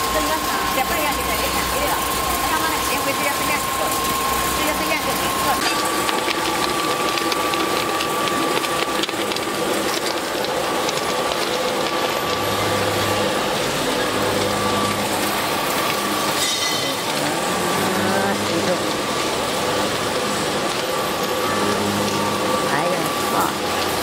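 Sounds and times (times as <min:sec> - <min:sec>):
machinery clatter: 0:00.0 - 0:24.0
motors whining: 0:00.0 - 0:24.0.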